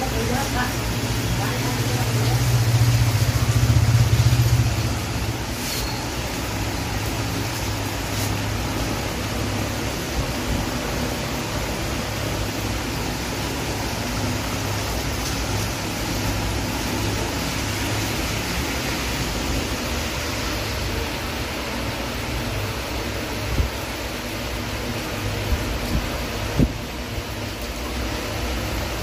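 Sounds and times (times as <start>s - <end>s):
heavy rain hiss: 0.0s - 29.0s.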